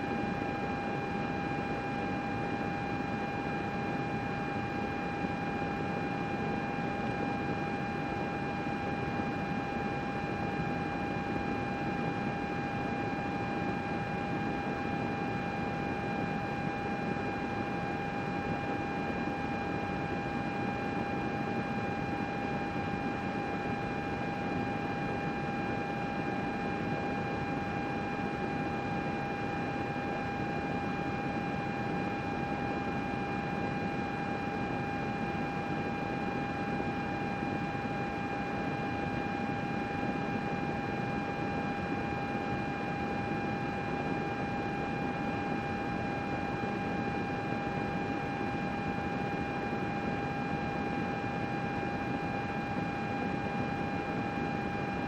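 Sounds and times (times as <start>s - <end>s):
constant high whine: 0.0s - 55.0s.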